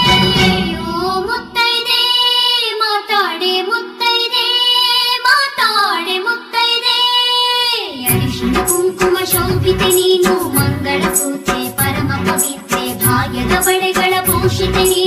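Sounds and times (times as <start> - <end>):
high voice singing devotional song: 0.0 - 15.0.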